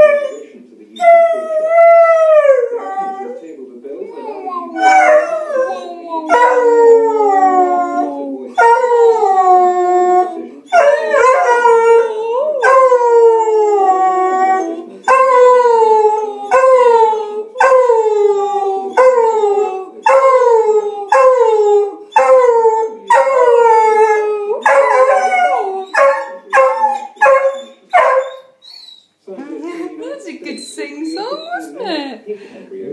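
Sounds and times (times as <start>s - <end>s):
dog howling: 0.0s - 0.4s, 1.0s - 3.4s, 4.2s - 28.5s.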